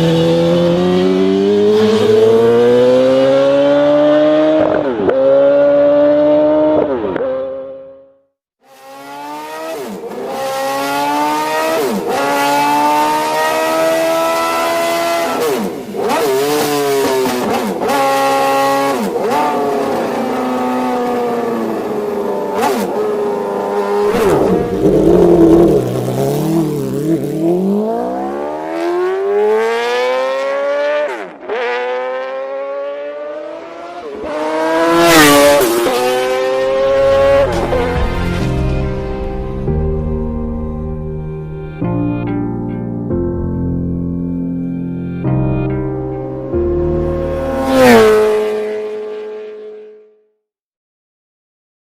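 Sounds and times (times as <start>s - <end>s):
motorcycle engine accelerating: 0.0s - 7.9s, 10.3s - 31.0s, 31.6s - 41.8s, 46.6s - 49.8s.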